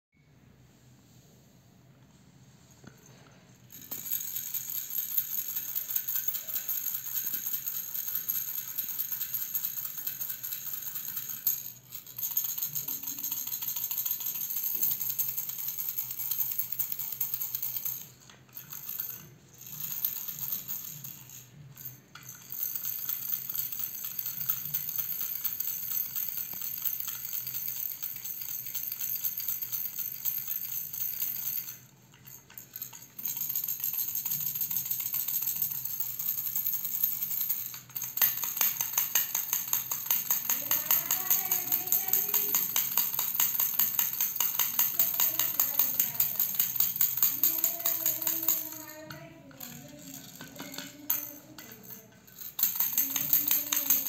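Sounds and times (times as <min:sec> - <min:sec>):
plastic baby rattle shaken: 0:03.7 - 0:54.0.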